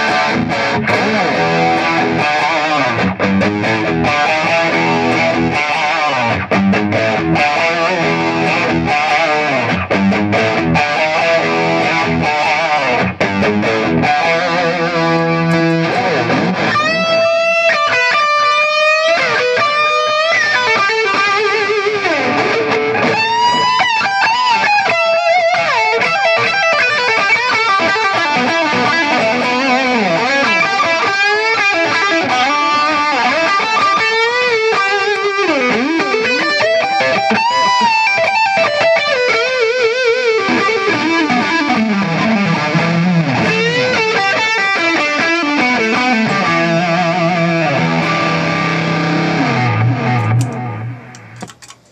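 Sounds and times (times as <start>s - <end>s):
electric guitar playing: 0.0s - 51.9s.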